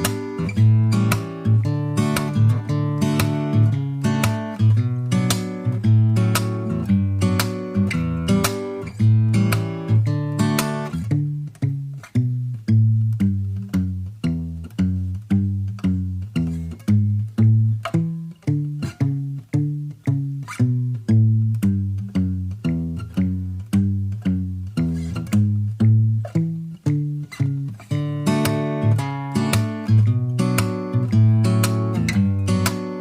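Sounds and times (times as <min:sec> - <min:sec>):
plucked guitar single notes: 0:00.0 - 0:33.0.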